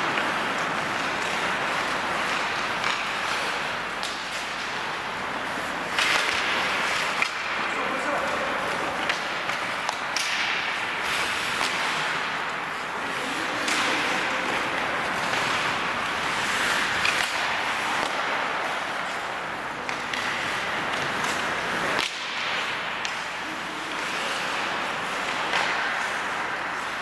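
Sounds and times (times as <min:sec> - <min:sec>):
skates scraping on ice: 0:00.0 - 0:27.0
sticks hitting puck: 0:00.0 - 0:27.0.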